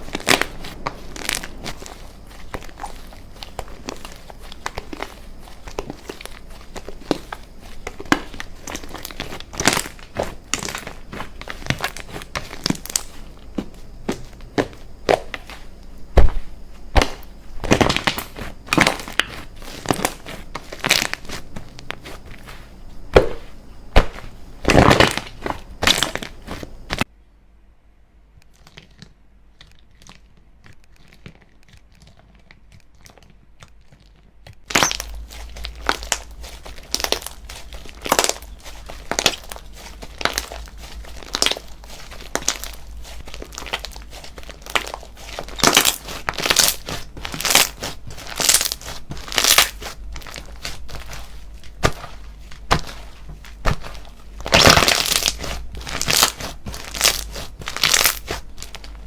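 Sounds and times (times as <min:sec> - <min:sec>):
slime crackling: 0:00.0 - 0:27.0, 0:28.5 - 0:59.0
slime popping and squishing: 0:00.0 - 0:27.0, 0:28.5 - 0:59.0.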